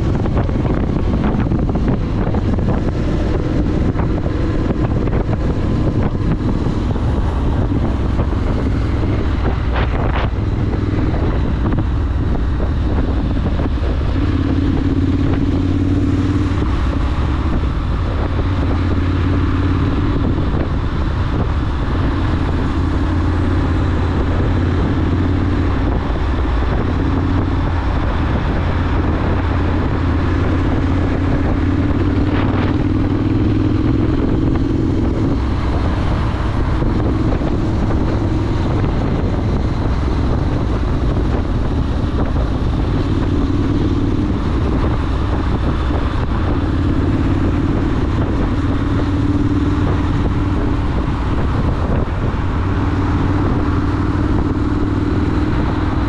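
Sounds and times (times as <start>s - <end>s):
motorcycle engine cruising: 0.0s - 56.0s
wind on microphone: 0.0s - 56.0s.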